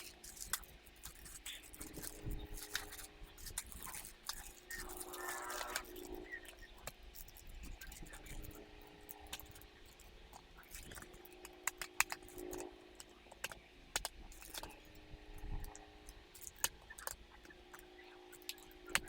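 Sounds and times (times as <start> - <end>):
small hard parts clicking and rattling: 0.0 - 19.0.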